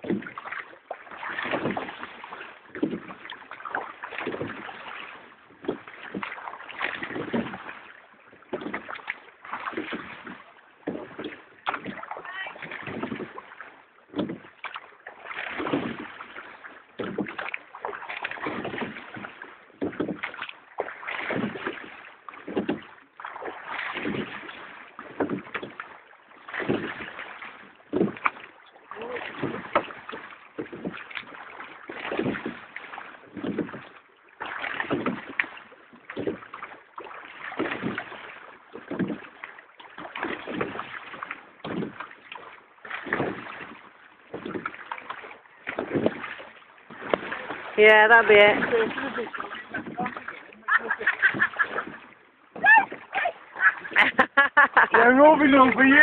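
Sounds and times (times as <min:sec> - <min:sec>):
oars knocking in rowlocks: 0:00.0 - 0:56.0
rush of water from oars: 0:00.0 - 0:56.0.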